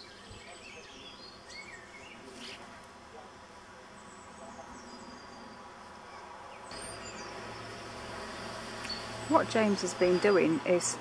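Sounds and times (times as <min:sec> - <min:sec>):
small birds chirping: 0:00.0 - 0:11.0
faint buzzing hum: 0:01.2 - 0:11.0.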